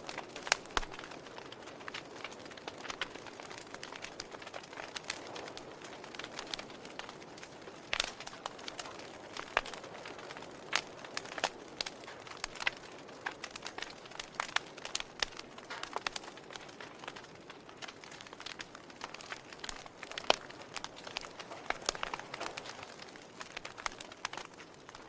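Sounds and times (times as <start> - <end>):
fire crackling and popping: 0.0 - 25.0
low fire hiss: 0.0 - 25.0.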